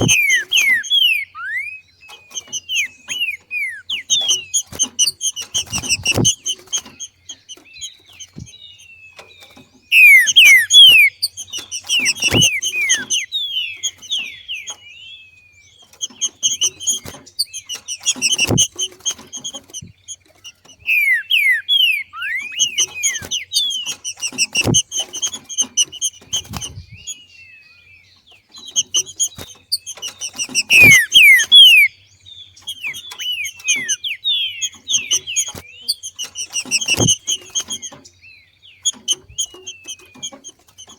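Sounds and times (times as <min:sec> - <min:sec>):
bird chattering call: 0:00.0 - 0:08.8, 0:09.4 - 0:14.9, 0:15.9 - 0:27.3, 0:28.6 - 0:38.2.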